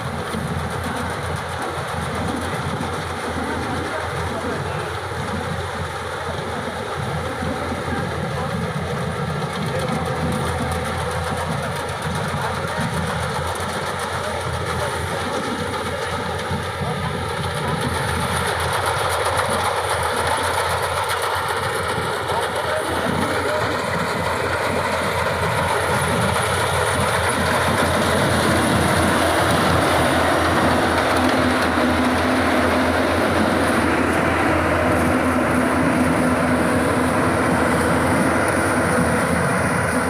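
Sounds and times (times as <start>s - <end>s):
combine harvester running: 0.0s - 40.0s.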